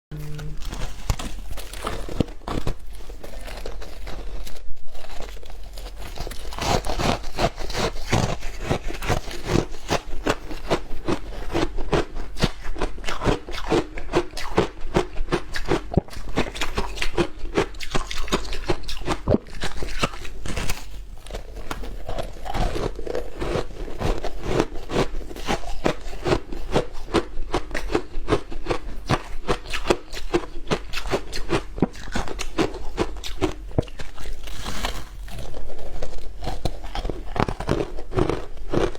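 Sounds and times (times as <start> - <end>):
ice crunching while chewed: 0.1 - 38.9.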